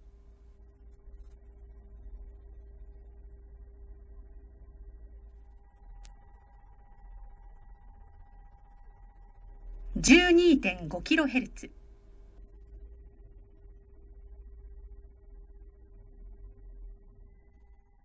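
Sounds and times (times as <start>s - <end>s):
high-pitched sine test tone: 0.0s - 10.2s, 12.3s - 18.0s.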